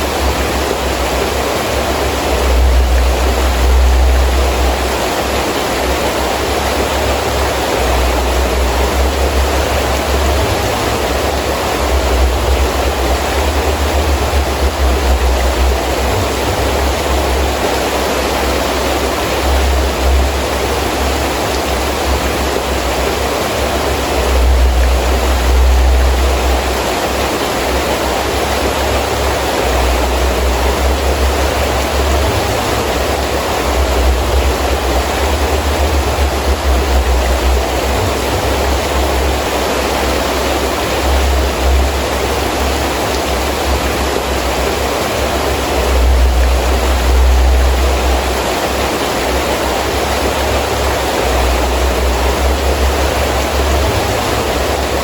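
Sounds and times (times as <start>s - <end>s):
heavy rain pouring: 0.0s - 55.0s
wind gusts rumbling: 0.0s - 55.0s.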